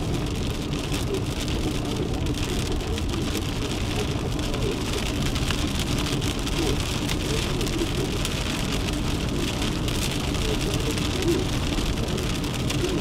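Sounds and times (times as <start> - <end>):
rain on car roof: 0.0 - 13.0.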